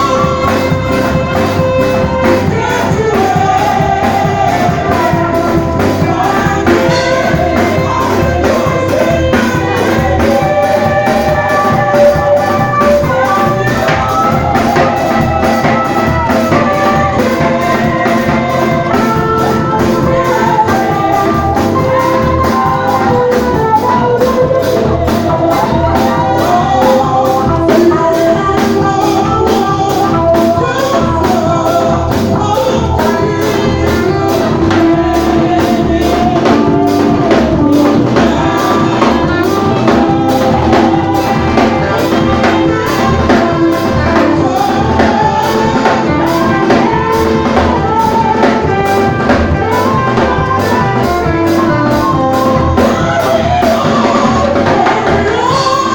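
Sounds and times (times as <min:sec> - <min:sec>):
drum kit beat: 0:00.0 - 0:55.9
guitar: 0:00.0 - 0:55.9
keyboard: 0:00.0 - 0:55.9
people singing: 0:00.0 - 0:55.9.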